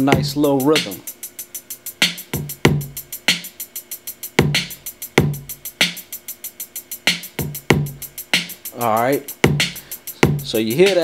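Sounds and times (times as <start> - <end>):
drum loop kick and snare: 0.0 - 11.0
fast hi-hat ticks: 0.0 - 11.0.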